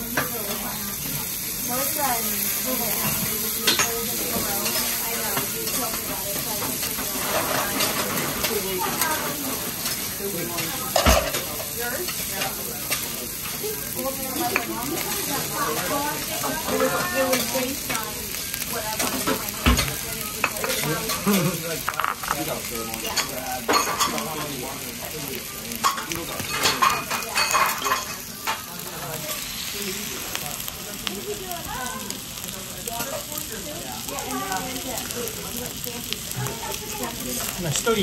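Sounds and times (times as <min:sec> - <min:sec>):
meat sizzling on a griddle: 0:00.0 - 0:38.0.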